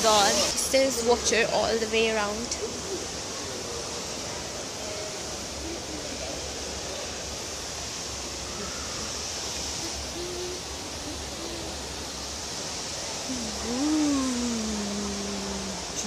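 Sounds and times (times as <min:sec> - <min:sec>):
indoor waterfall rushing: 0:00.0 - 0:16.0.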